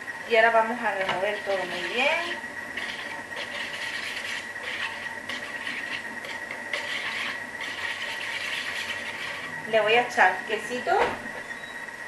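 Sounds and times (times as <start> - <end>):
whisk beating in bowl: 0.8 - 10.8.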